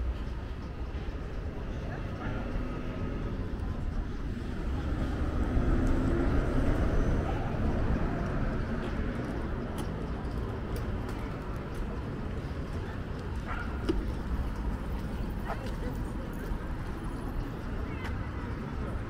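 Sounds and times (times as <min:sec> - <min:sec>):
background traffic rumble: 0:00.0 - 0:19.0.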